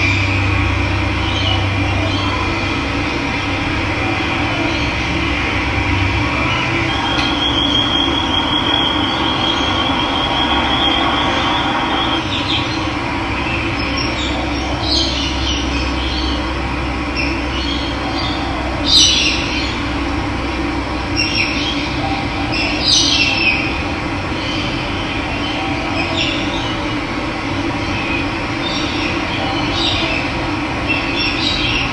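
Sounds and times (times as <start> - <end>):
birds calling: 0.0 - 20.0, 21.0 - 27.0.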